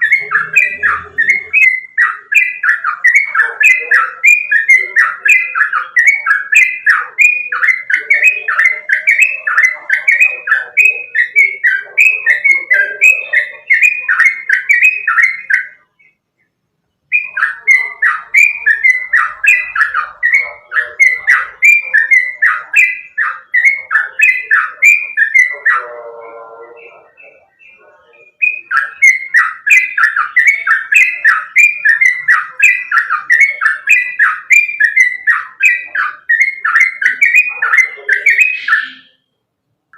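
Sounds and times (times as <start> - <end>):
bird singing whistled notes: 0.0 - 39.5.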